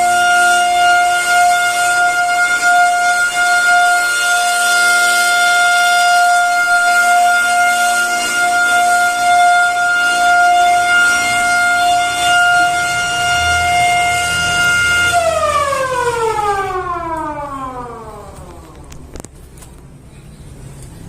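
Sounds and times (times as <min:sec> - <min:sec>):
motor siren wailing: 0:00.0 - 0:19.3.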